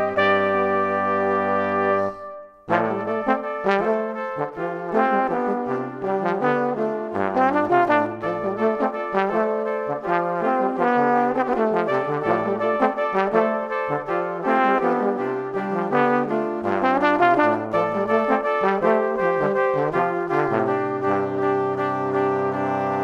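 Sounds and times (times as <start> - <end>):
instrumental music: 0.0 - 23.0.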